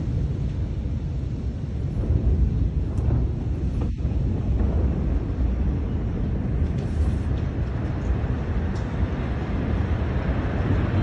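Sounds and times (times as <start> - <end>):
air buffeting microphone: 0.0 - 11.0
low rumble after explosion: 0.0 - 11.0.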